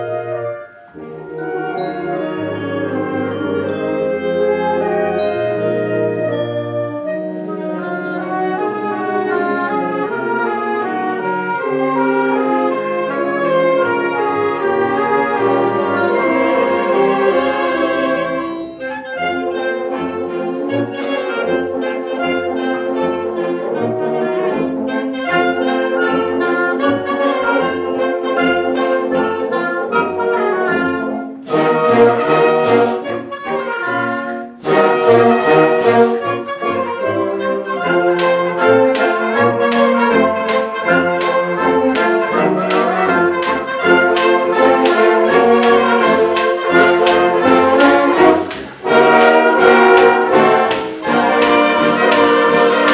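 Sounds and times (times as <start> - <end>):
wind band playing chords: 0.0 - 52.9
sharp percussion strokes: 7.0 - 33.1, 34.2 - 52.9.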